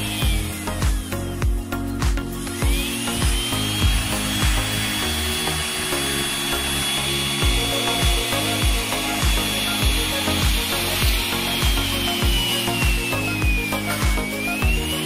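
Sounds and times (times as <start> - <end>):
background music with beat: 0.0 - 15.0
drill motor high whine: 0.0 - 15.0.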